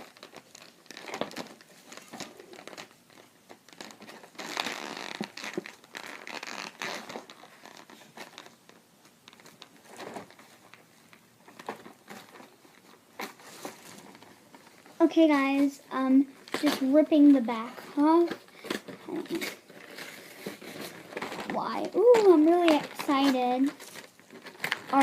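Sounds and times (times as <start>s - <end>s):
plastic packaging crinkling and tearing: 0.0s - 25.0s.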